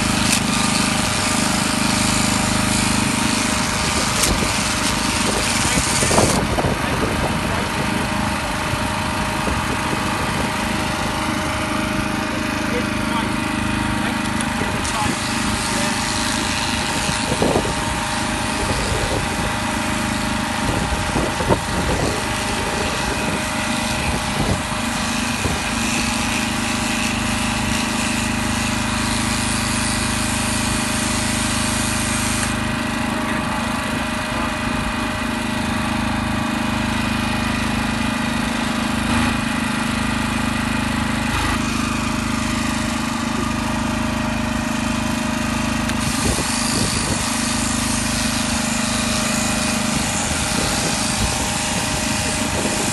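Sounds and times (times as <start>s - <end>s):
electric clippers humming: 0.0s - 52.9s.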